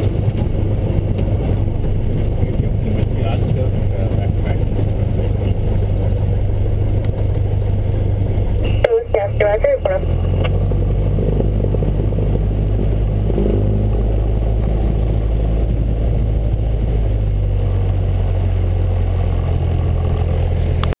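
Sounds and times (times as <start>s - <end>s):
propeller plane engine idling: 0.0s - 21.0s.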